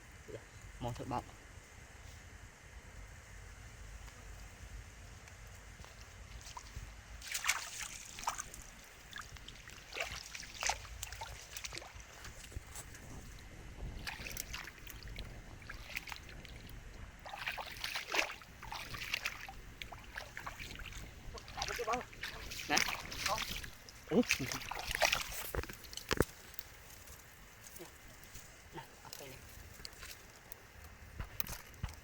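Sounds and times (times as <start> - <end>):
water splashing and trickling: 6.3 - 32.0.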